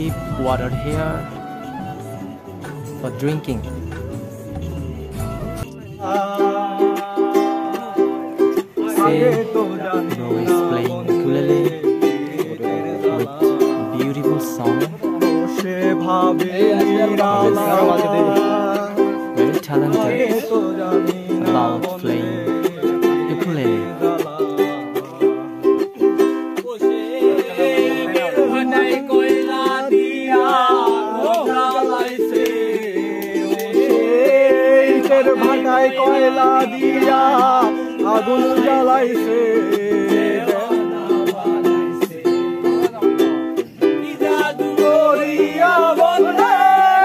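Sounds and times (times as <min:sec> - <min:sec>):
man singing: 0:00.0 - 0:01.6, 0:04.6 - 0:47.0
ukulele strumming: 0:00.0 - 0:47.0.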